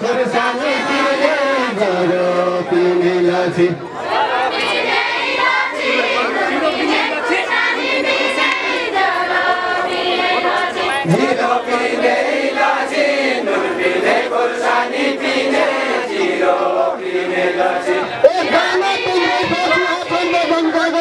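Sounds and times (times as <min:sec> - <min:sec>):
group singing chant-like melody: 0:00.0 - 0:03.2, 0:04.0 - 0:21.0
crowd noise: 0:00.0 - 0:21.0.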